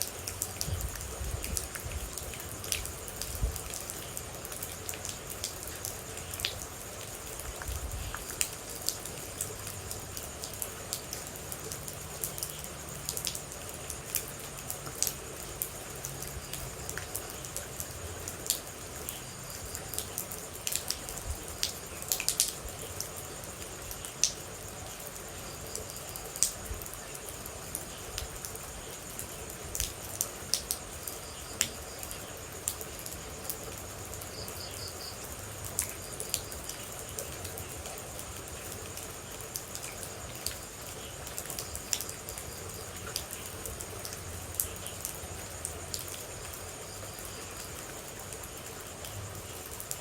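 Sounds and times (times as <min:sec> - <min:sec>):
water droplets dripping: 0:00.0 - 0:24.8, 0:29.5 - 0:50.0
rain hiss: 0:00.0 - 0:50.0.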